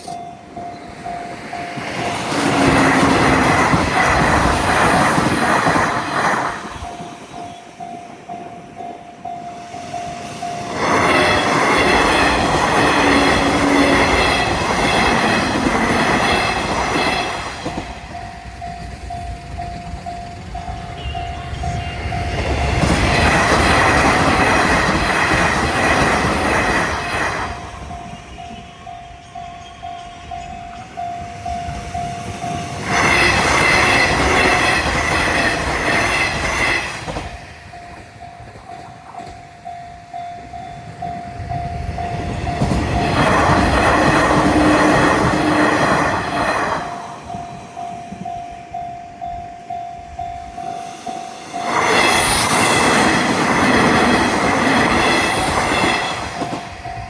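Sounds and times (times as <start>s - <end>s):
railroad crossing bell ringing: 0.0s - 57.0s
train wheels on rails: 0.0s - 57.0s.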